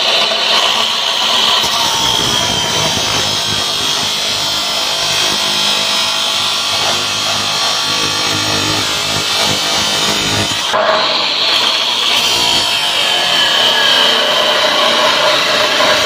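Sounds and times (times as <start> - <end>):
cut-off saw grinding steel: 0.0 - 16.0.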